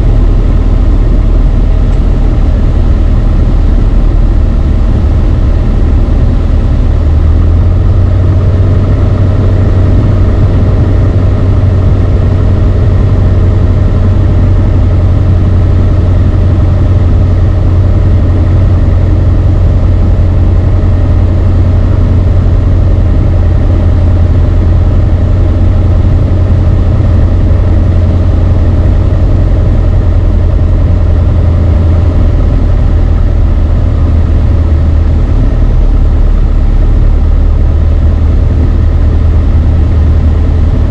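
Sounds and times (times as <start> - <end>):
airplane engine droning: 0.0 - 40.9.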